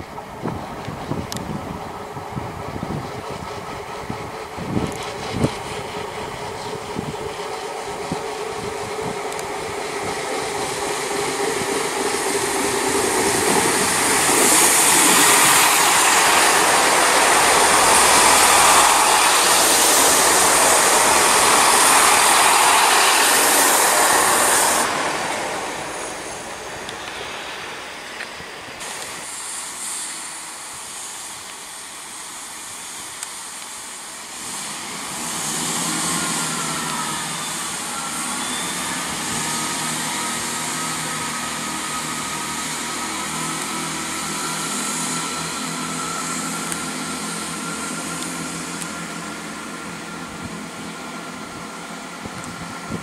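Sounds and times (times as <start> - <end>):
diesel train engines with whine: 0.0 - 53.0
steady hiss: 5.2 - 52.9.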